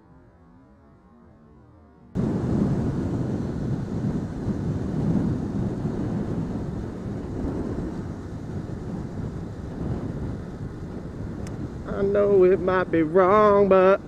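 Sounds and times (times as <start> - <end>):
road noise: 2.2 - 14.0
wind rushing on microphone: 2.2 - 14.0.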